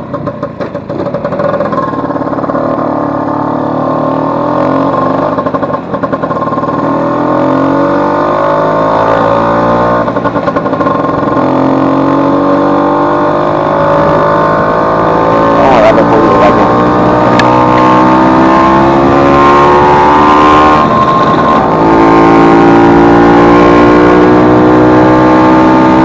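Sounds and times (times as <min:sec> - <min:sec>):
scooter engine accelerating: 0:00.0 - 0:26.0.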